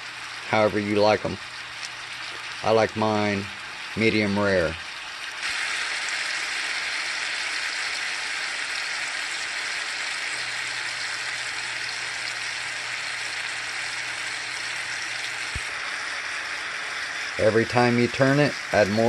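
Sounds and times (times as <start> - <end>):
steaks sizzling in a skillet: 0.0 - 19.0.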